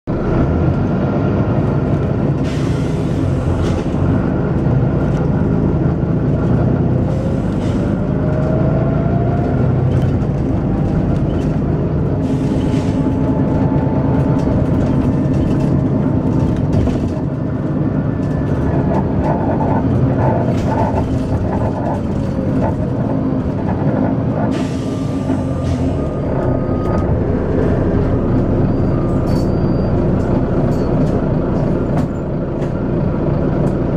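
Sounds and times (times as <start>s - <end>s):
diesel bus engine working hard: 0.0s - 33.9s
engine whine: 0.1s - 33.9s.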